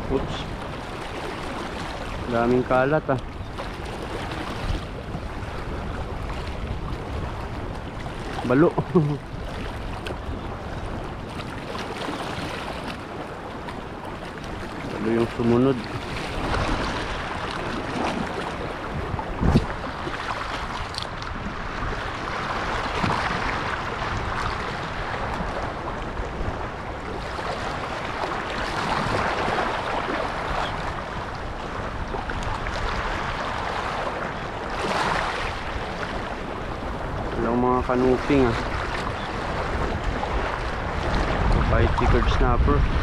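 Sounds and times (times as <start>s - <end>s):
seawater lapping at shore: 0.0s - 43.0s
wind on microphone: 0.0s - 43.0s.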